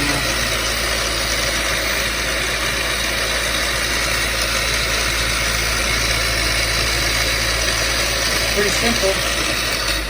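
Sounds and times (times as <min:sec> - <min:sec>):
milling machine spindle humming: 0:00.0 - 0:10.0.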